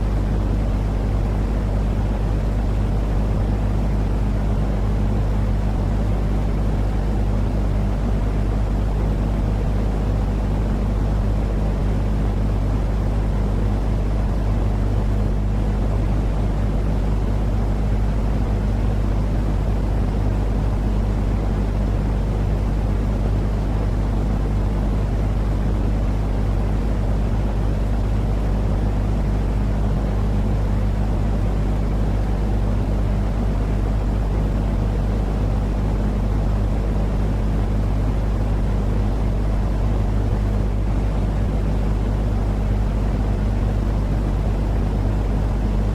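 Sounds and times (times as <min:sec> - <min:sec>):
deep rumbling white noise hiss: 0:00.0 - 0:45.9.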